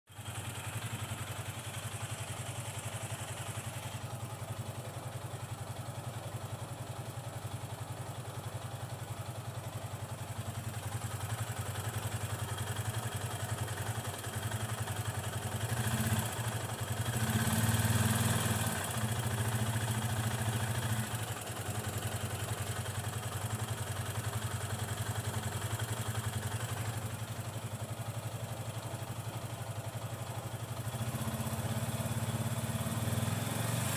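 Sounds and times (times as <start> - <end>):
ticking engine rattle: 0.1 - 33.3
motorcycle engine idling: 0.1 - 33.9.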